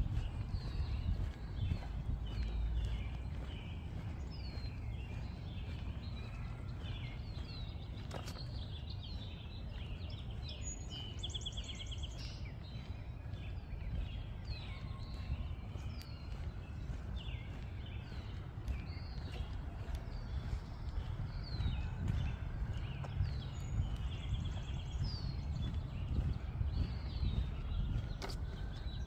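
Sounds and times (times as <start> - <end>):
low outdoor rumble: 0.0 - 29.0
songbirds chirping and calling: 0.0 - 29.0.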